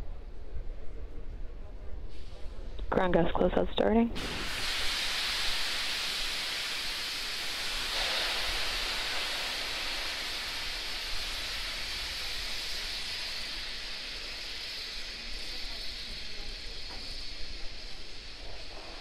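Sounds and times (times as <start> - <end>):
venting hiss: 2.0 - 19.0.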